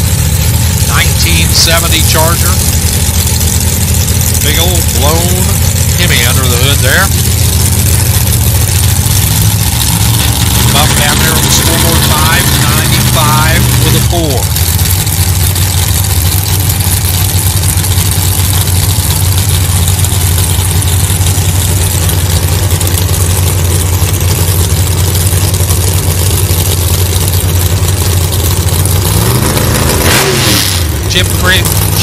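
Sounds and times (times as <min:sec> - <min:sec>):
drag car engines idling: 0:00.0 - 0:32.0
engine revving: 0:00.0 - 0:32.0.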